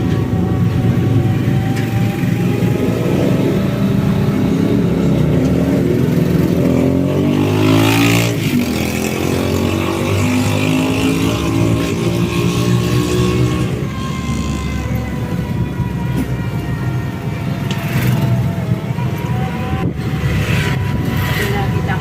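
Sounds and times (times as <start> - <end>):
vehicle engines running: 0.0 - 22.0.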